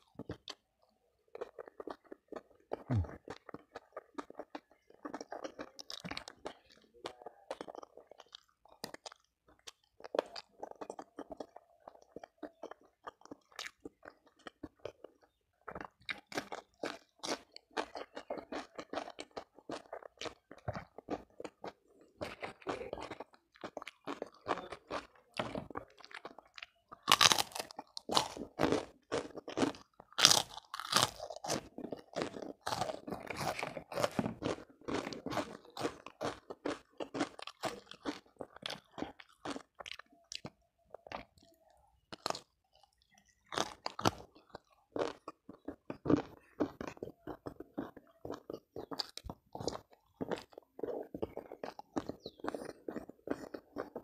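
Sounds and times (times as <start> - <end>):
crunching food: 0.0 - 54.0
wet chewing: 0.0 - 54.0.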